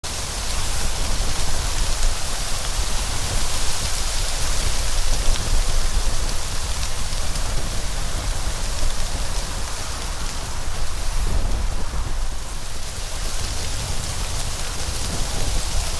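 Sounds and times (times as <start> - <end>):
heavy rain: 0.0 - 15.9.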